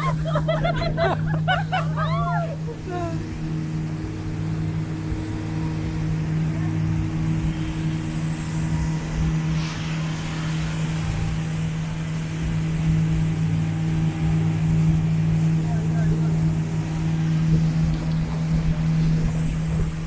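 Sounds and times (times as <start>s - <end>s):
motorboat engine running: 0.0s - 20.0s
water and hull noise: 0.0s - 20.0s.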